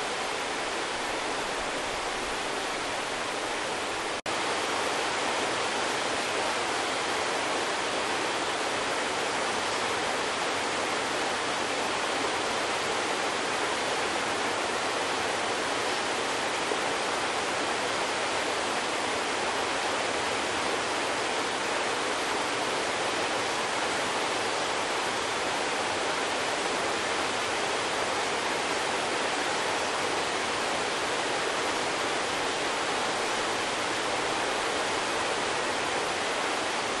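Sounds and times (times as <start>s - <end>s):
stream rushing over rocks: 0.0s - 37.0s.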